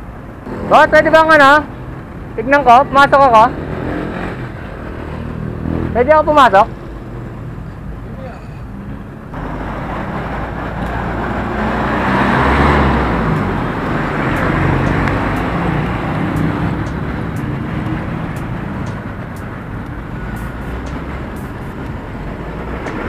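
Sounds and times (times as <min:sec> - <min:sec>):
motor vehicle passing: 0:00.4 - 0:23.0.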